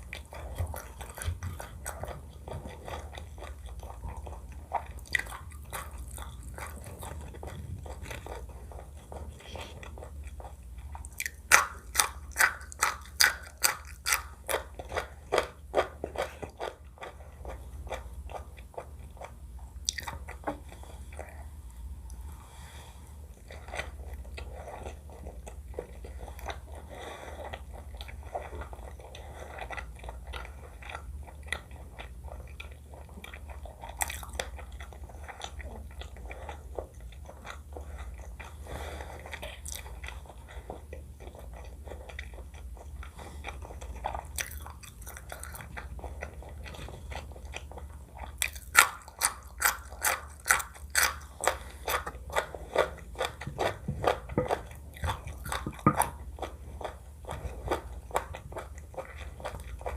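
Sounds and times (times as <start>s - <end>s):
wet chewing of food: 0.0s - 59.9s.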